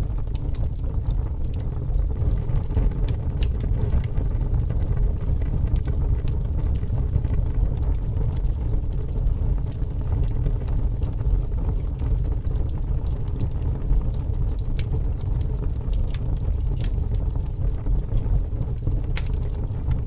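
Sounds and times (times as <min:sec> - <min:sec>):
fire crackles and pops: 0:00.0 - 0:20.0
low roar of flames: 0:00.0 - 0:20.0.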